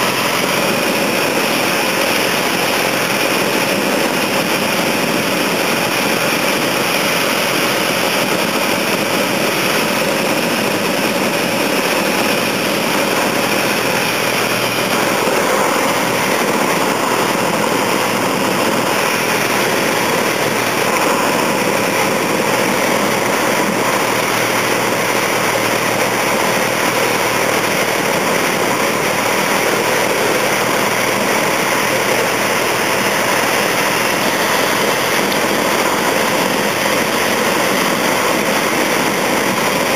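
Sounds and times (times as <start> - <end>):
light aircraft engine from cabin: 0.0 - 39.9.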